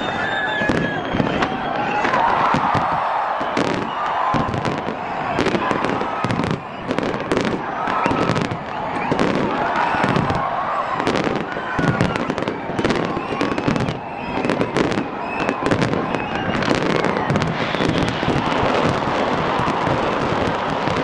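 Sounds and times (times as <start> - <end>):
fireworks cracking and popping: 0.0 - 21.0.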